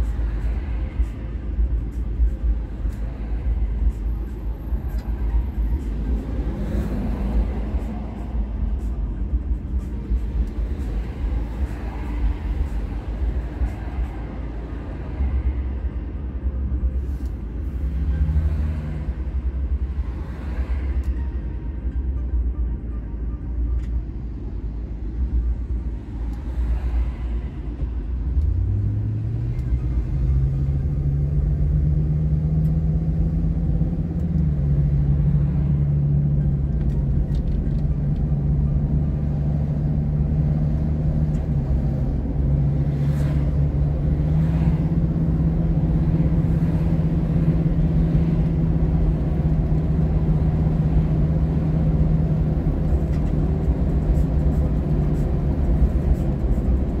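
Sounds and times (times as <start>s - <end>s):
car engine while driving: 0.0s - 57.0s
low road rumble: 0.0s - 57.0s.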